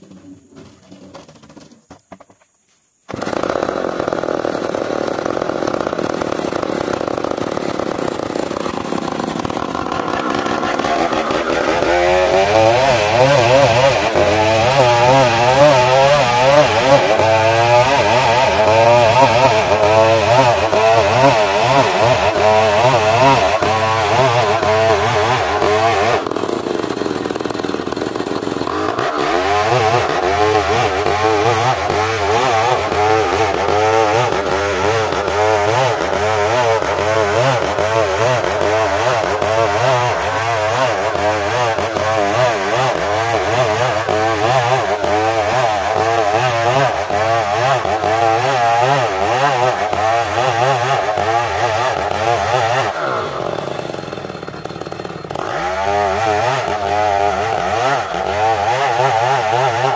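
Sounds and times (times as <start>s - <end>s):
chainsaw cutting through wood: 3.1s - 59.9s.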